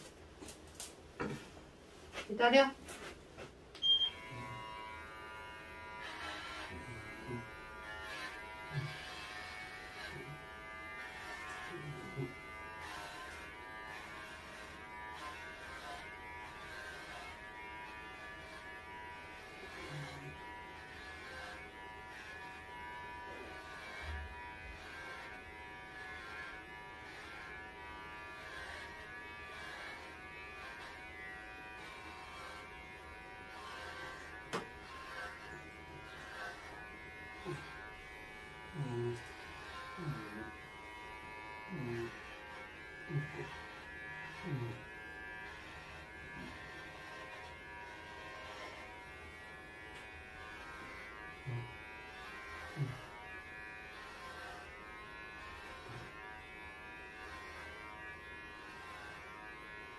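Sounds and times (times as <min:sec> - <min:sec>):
electric hair clippers buzzing: 0:03.8 - 0:59.9.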